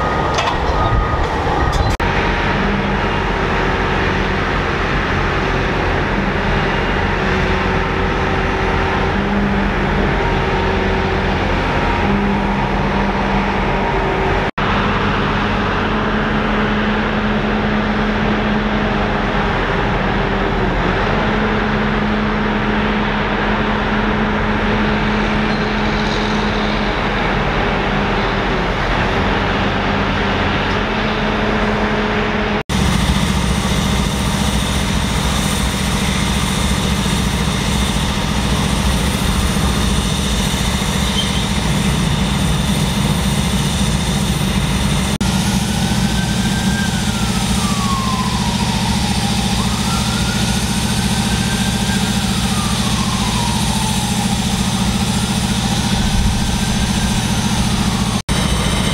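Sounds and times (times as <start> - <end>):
heavy diesel engines running: 0.0 - 58.9.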